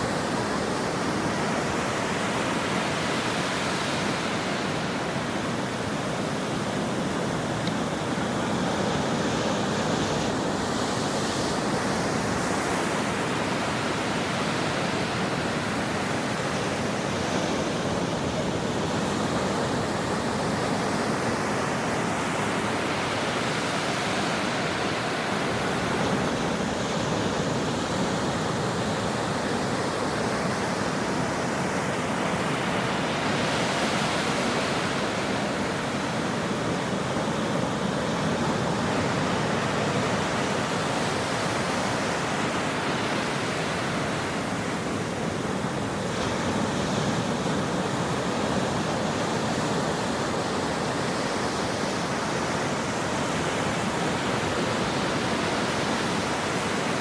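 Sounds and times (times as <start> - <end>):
ocean surf breaking: 0.0 - 57.0.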